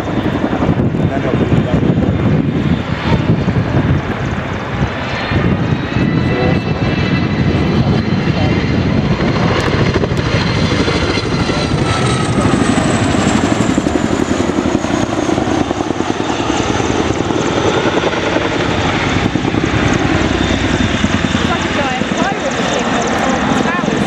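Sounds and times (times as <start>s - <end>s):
helicopter rotors beating: 0.0s - 24.0s
high turbine whine: 0.0s - 24.0s.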